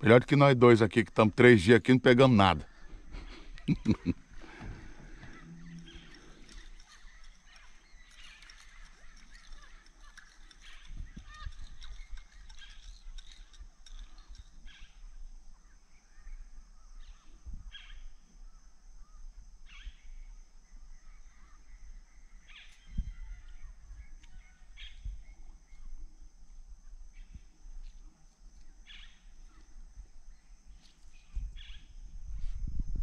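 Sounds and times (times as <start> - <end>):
bird calls: 2.4 - 26.1, 26.9 - 32.0.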